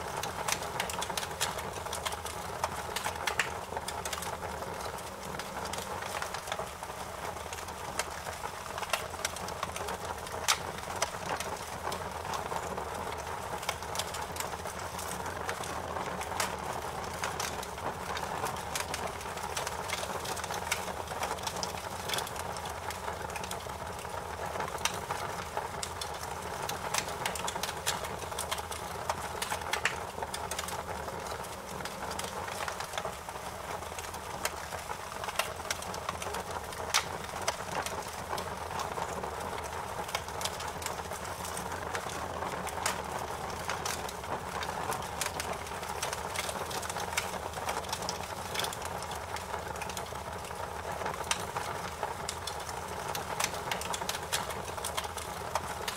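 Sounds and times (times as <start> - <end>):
fire crackling and popping: 0.0 - 55.9
steady fire hiss: 0.0 - 55.9.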